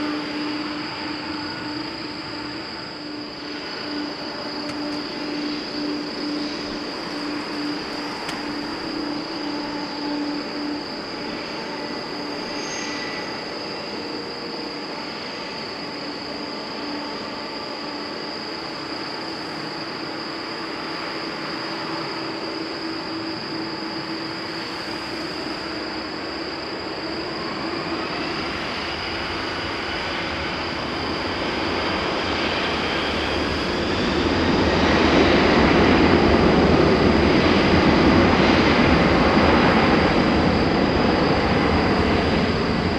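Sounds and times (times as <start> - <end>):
jet engines whining: 0.0 - 42.9.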